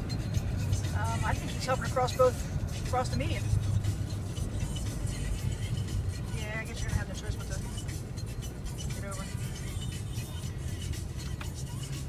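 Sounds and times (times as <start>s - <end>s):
car road and engine rumble: 0.0s - 12.0s
music playing in car: 0.0s - 12.0s.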